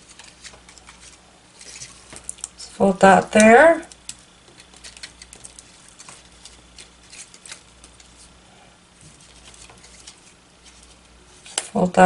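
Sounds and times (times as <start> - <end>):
paper crinkling and clicking: 0.0 - 2.6, 3.9 - 8.4, 9.0 - 11.8.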